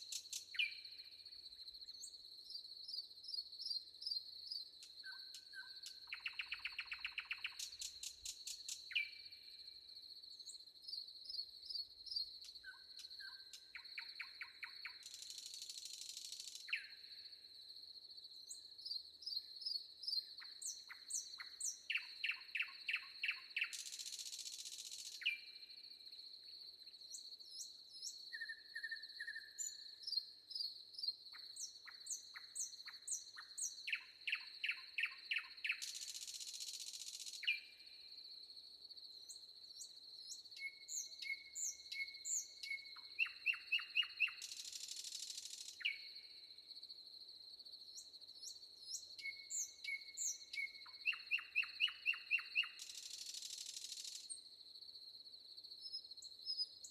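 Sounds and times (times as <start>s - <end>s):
songbirds singing: 0.0s - 9.4s, 10.3s - 17.3s, 18.4s - 25.8s, 26.5s - 38.0s, 39.2s - 46.4s, 47.9s - 54.5s.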